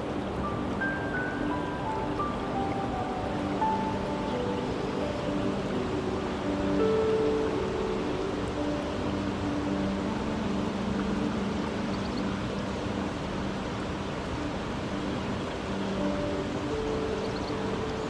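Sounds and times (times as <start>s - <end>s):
ambient music low notes: 0.0s - 18.0s
rushing water: 0.0s - 18.0s.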